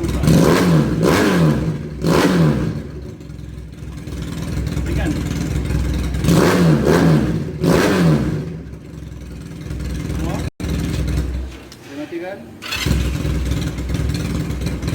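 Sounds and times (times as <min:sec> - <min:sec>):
motorcycle engine revving and idling: 0:00.0 - 0:11.9, 0:12.5 - 0:14.9.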